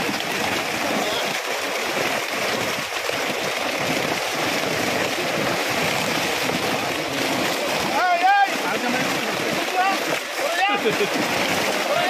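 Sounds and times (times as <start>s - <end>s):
pond water splashing: 0.0s - 12.0s.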